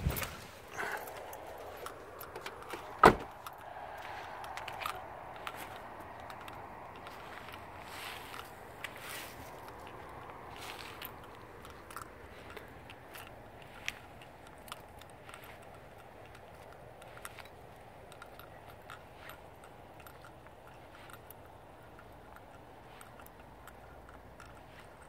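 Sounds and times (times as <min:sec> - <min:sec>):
footsteps crunching on asphalt: 0:00.0 - 0:21.9.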